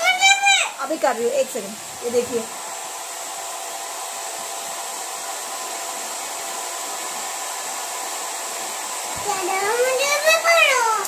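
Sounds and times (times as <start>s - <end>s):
hair dryer running: 0.0s - 11.0s.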